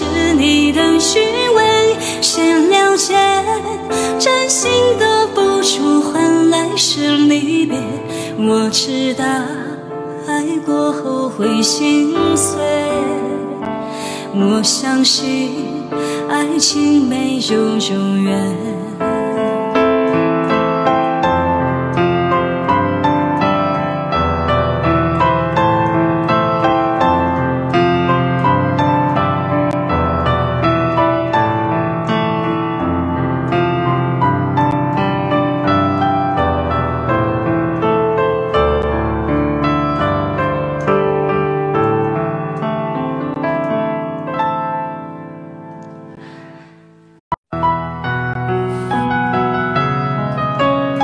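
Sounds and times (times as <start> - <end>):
solo piano ballad: 0.0 - 51.0.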